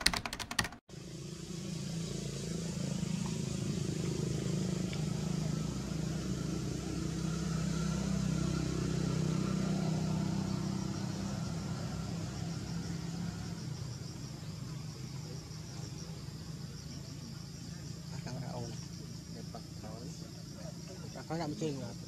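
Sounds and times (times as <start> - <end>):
high pulsing insect chirp: 0.9 - 22.0
vehicle engine running: 0.9 - 22.0.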